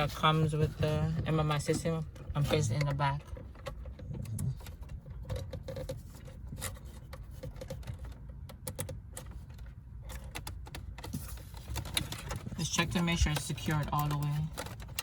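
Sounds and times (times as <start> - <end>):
low steady hum: 0.0 - 15.0
plastic connectors clicking and rattling: 1.7 - 15.0.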